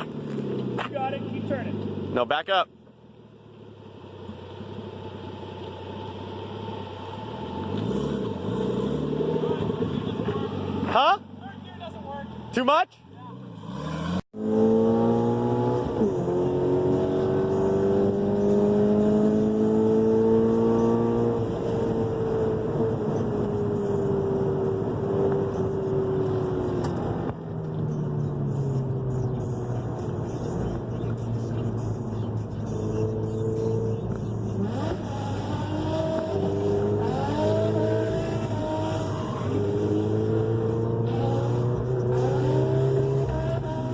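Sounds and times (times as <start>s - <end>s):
car engine revving under load: 4.0s - 11.4s, 13.2s - 43.9s.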